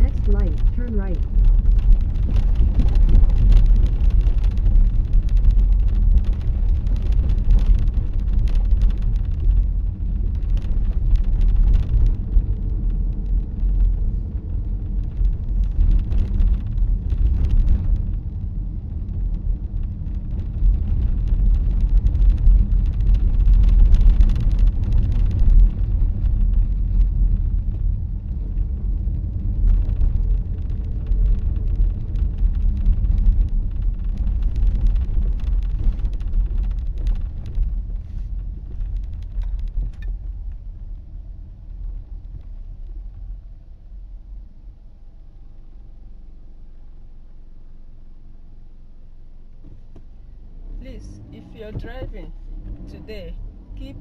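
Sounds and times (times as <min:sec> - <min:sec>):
car tyre and engine rumble: 0:00.0 - 0:54.0.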